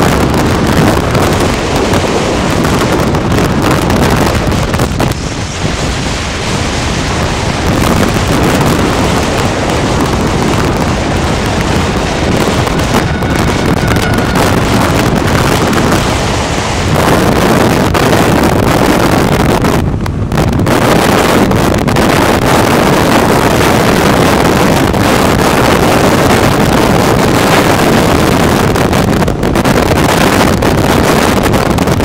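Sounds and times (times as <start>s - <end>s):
road and vehicle noise: 0.0s - 32.0s
wind buffeting microphone: 0.0s - 32.0s.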